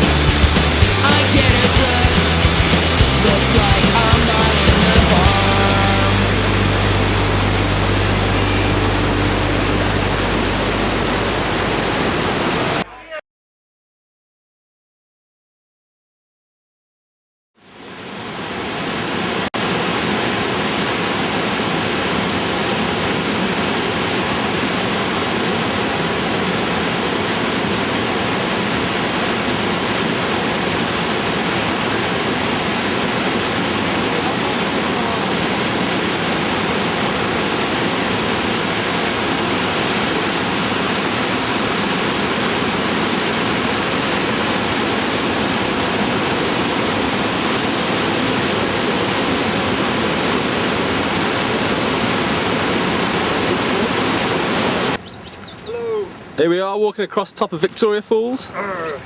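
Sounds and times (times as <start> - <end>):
rushing river water: 0.0 - 12.8, 17.6 - 55.0.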